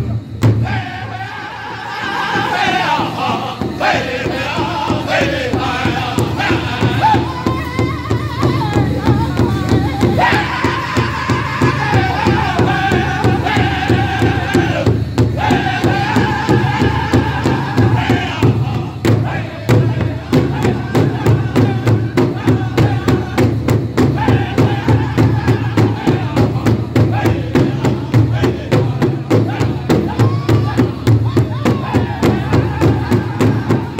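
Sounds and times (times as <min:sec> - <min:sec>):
steady drumbeat: 0:00.0 - 0:33.9
high-pitched group singing: 0:00.6 - 0:33.9.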